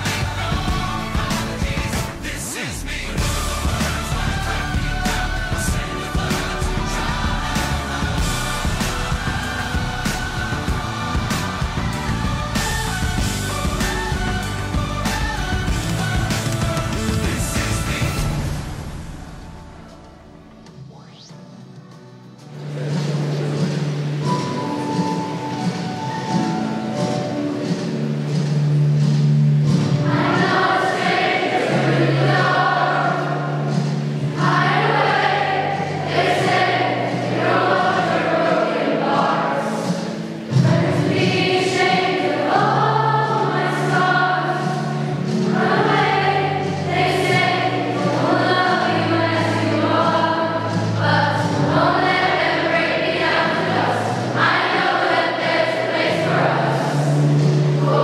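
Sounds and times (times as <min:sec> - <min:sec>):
mass choir singing: 0:00.0 - 0:20.6, 0:22.3 - 0:58.0.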